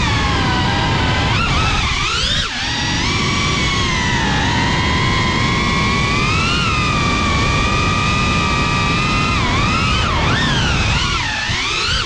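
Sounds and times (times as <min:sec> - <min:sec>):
drone motors whining: 0:00.0 - 0:12.0
propwash and wind noise: 0:00.0 - 0:12.0.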